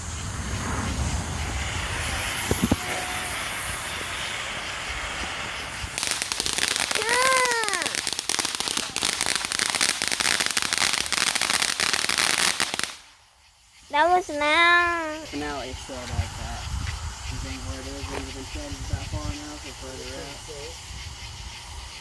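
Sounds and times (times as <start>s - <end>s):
firework crackling: 0.0s - 22.0s
firework hissing: 0.0s - 22.0s
firework sharp pops: 0.0s - 22.0s.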